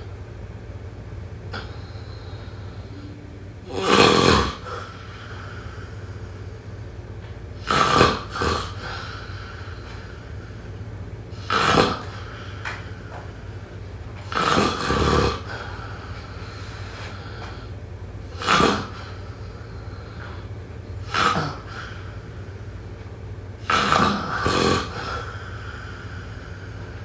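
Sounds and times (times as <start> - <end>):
low hum: 0.0 - 27.0
person snoring: 1.5 - 6.9, 7.6 - 13.6, 14.2 - 22.8, 23.6 - 27.0.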